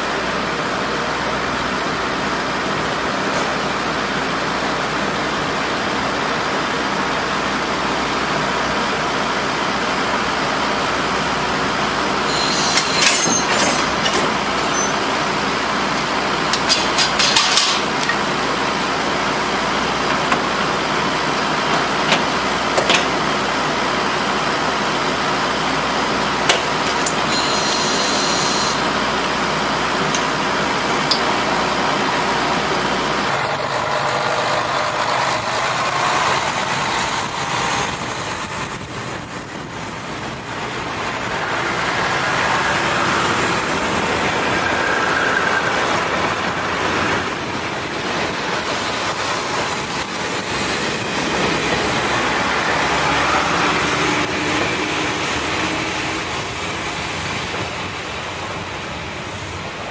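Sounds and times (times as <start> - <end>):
diesel train running: 0.0 - 59.9.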